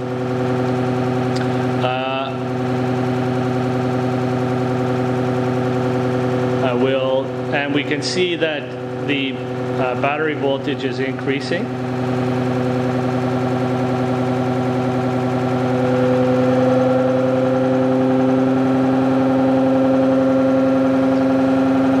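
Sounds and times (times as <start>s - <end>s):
electric motor humming: 0.0s - 22.0s.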